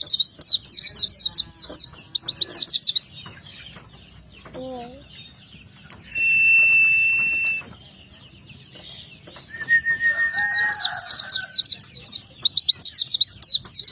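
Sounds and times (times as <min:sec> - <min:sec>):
songbird singing: 0:00.0 - 0:13.9.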